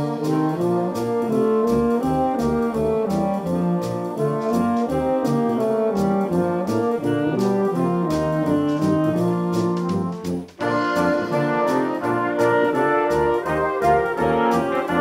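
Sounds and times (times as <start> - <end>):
brass band playing: 0.0 - 15.0
cymbal and drum strokes: 0.0 - 15.0
low bass notes: 0.0 - 15.0.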